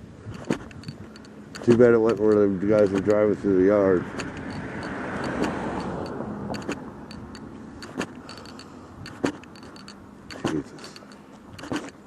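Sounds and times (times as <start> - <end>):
light clicks: 0.4 - 3.2, 4.1 - 12.0
road vehicle passing by: 0.4 - 11.9.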